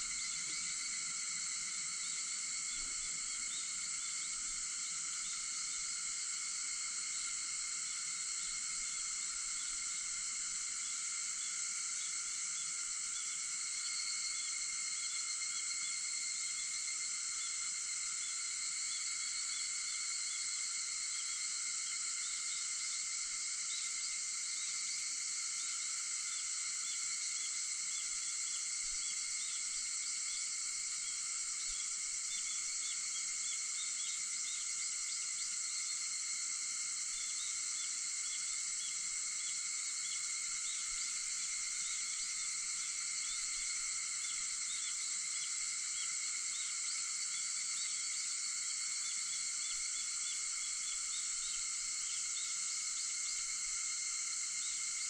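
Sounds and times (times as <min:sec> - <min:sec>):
cicadas singing: 0:00.0 - 0:55.0.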